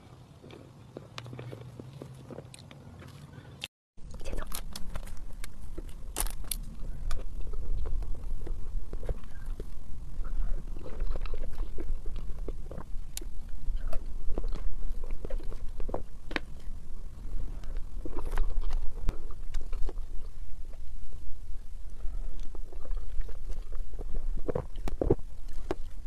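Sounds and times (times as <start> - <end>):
person chewing cake: 0.0 - 26.0
steady low rumble: 4.0 - 26.0.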